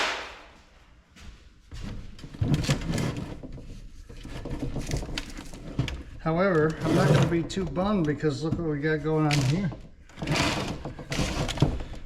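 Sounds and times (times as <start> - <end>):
plastic parts clattering and rattling: 2.2 - 12.0.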